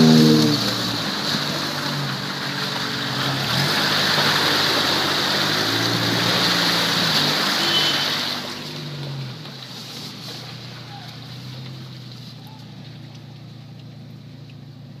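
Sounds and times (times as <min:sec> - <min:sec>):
engine working under load: 0:00.0 - 0:15.0.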